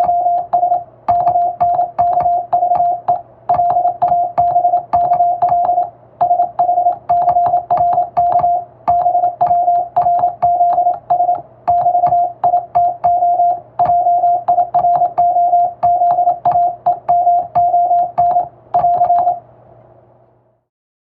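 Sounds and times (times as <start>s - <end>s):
morse code tone: 0.0s - 19.4s
telegraph key clicks: 0.0s - 19.4s.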